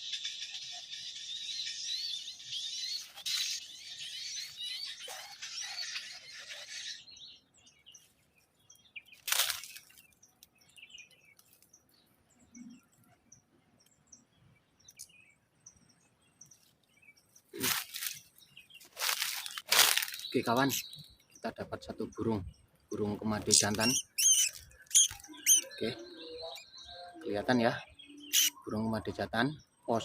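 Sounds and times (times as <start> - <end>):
high bird chirping: 0.0 - 30.0.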